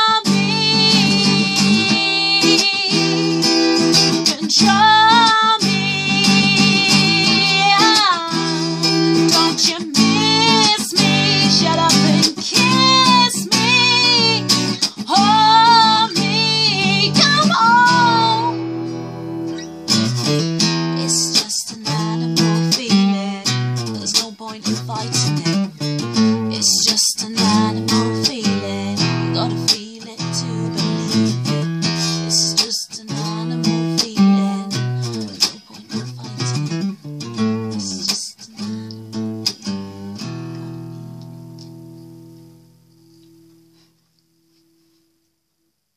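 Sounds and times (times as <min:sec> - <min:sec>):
woman singing: 0:00.0 - 0:18.7, 0:20.6 - 0:40.2
strummed acoustic guitar: 0:00.0 - 0:44.0.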